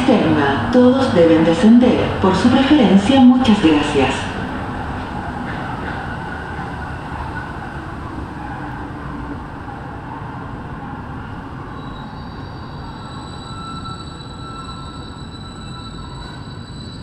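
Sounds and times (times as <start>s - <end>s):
train rumbling through tunnel: 0.0s - 17.0s.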